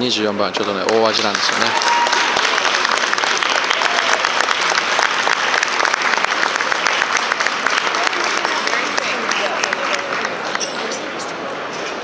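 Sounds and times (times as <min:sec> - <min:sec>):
audience clapping: 0:00.4 - 0:11.0.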